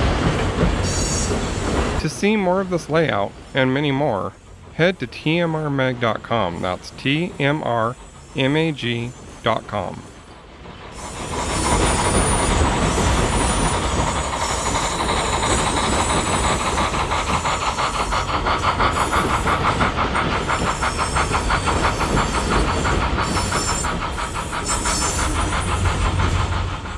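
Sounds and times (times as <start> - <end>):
steam locomotive chuffing: 0.0 - 26.9.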